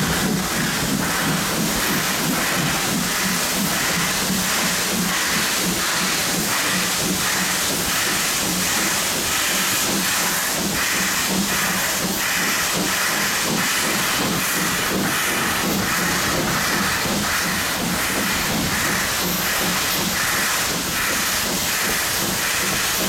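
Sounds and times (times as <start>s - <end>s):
regular rhythmic beat of train: 0.0s - 23.0s
train hiss: 0.0s - 23.0s
train running: 0.0s - 23.0s.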